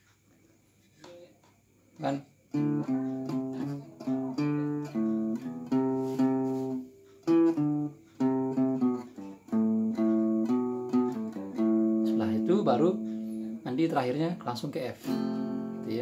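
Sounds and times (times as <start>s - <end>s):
hollow-body guitar playing: 2.0s - 16.0s.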